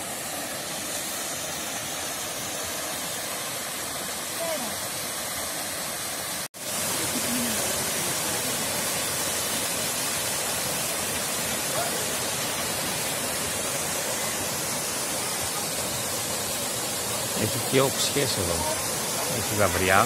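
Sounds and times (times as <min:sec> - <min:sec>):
waterfall rushing over rock: 0:00.0 - 0:20.0.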